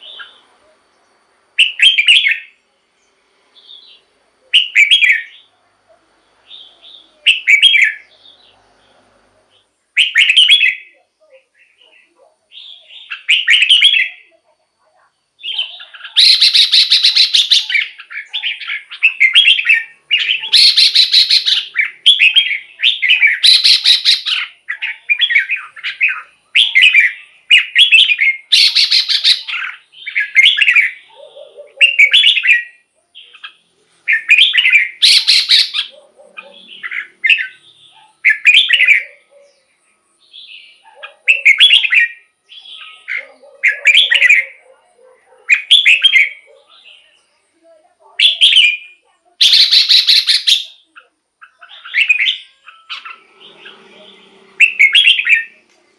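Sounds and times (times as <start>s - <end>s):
bird singing warbling phrases: 0.0s - 5.6s, 6.4s - 55.9s.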